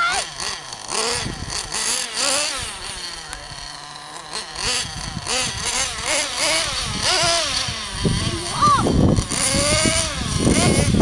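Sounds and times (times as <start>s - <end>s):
rc truck engine revving: 0.0s - 11.0s.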